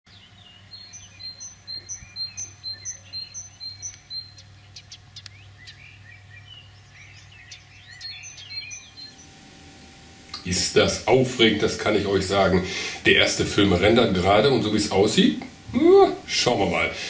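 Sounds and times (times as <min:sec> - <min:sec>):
faint steady low hum: 0:00.1 - 0:17.0
songbird singing: 0:00.1 - 0:17.0.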